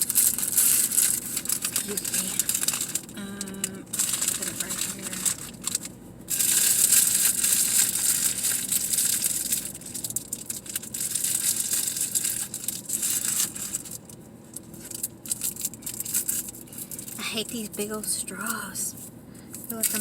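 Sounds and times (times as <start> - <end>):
food packaging crinkling: 0.0 - 17.6, 18.9 - 20.0.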